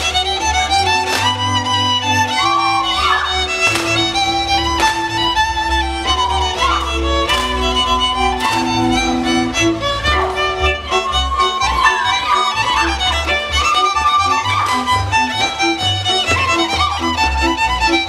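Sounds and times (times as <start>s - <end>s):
double bass line: 0.0s - 18.0s
fiddle playing a melody: 0.0s - 18.0s.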